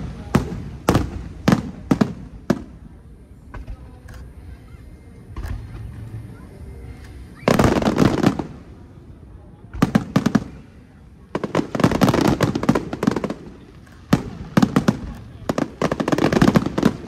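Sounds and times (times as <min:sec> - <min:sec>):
fireworks bursting with crackling bangs: 0:00.0 - 0:04.2, 0:07.1 - 0:17.0.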